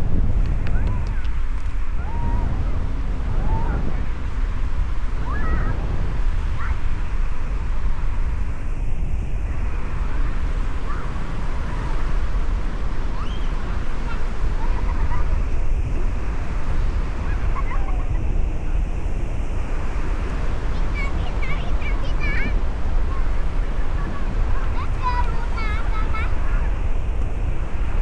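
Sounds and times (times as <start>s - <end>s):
sea surf washing onto beach: 0.0s - 28.0s
wind buffeting microphone: 0.0s - 28.0s.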